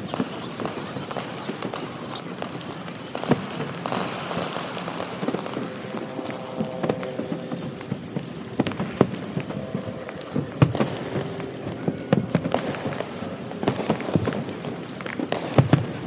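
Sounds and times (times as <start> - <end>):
fireworks booms and crackling pops: 0.0 - 16.0.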